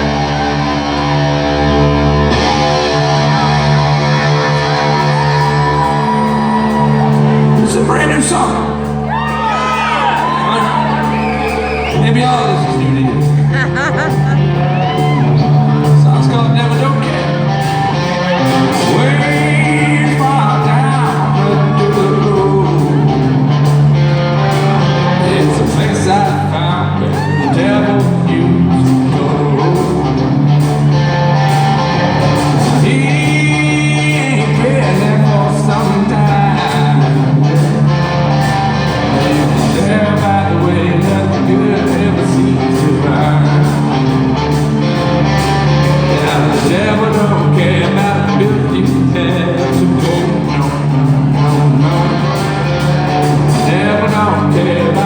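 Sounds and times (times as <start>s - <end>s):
electric guitar: 0.0s - 55.0s
live rock band playing: 0.0s - 55.0s
person singing: 2.3s - 23.8s, 24.5s - 30.5s, 32.2s - 55.0s.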